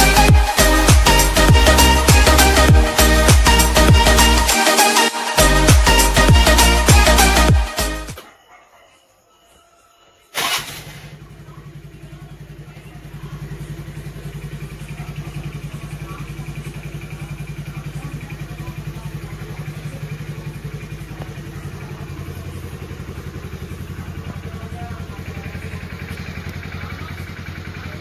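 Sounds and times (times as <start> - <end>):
scooter engine idling: 0.0 - 8.6, 10.4 - 28.0.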